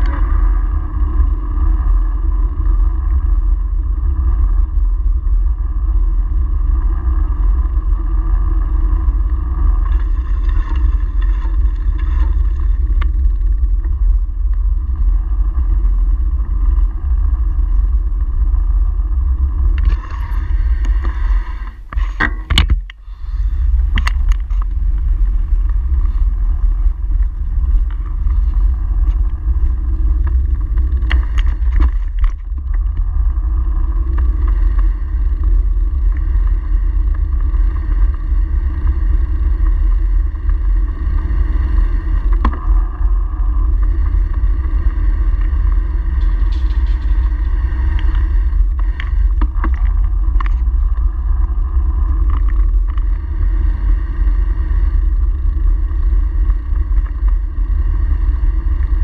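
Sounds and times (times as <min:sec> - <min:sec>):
road and tyre noise: 0:00.0 - 0:59.0
wind buffeting microphone: 0:00.0 - 0:59.0.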